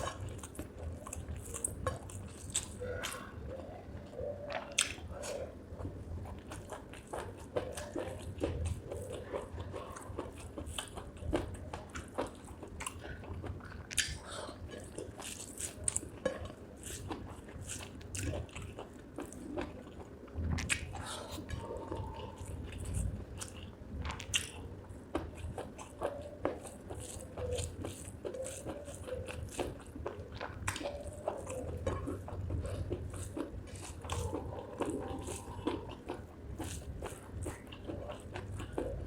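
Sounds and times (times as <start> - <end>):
chewing and biting: 0.0 - 39.0
mouth clicks and smacks: 0.0 - 39.0.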